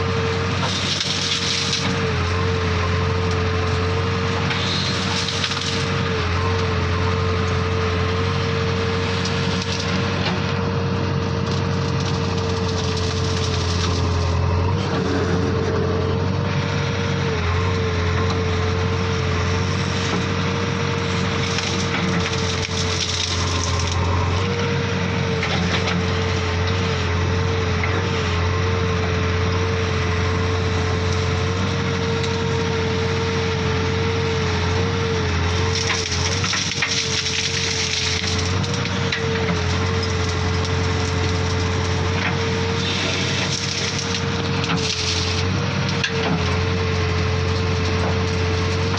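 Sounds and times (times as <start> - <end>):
continuous mechanical whine: 0.0 - 48.9
diesel engine running: 0.0 - 48.9.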